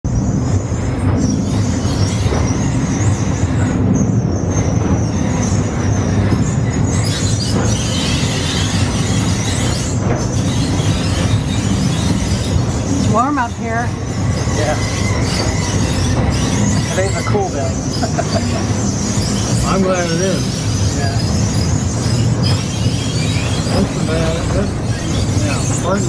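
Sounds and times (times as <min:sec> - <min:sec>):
elevator rumbling and rattling: 0:00.1 - 0:26.0
faint high squeal: 0:01.2 - 0:26.0.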